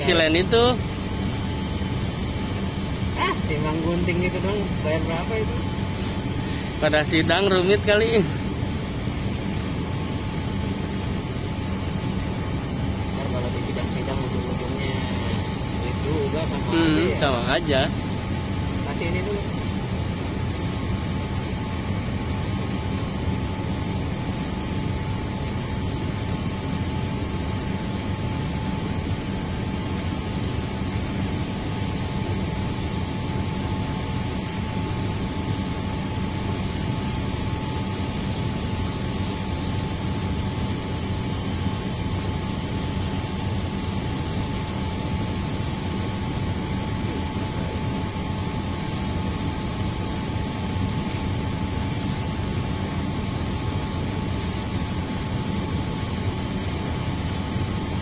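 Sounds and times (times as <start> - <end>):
machinery humming with whine: 0.0 - 58.0.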